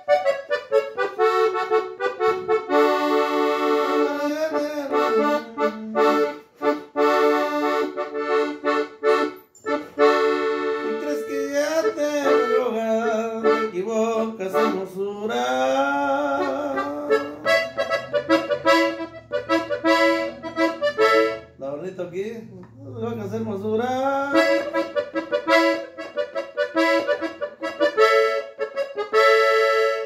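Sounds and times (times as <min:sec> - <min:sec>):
accordion melody: 0:00.0 - 0:30.0.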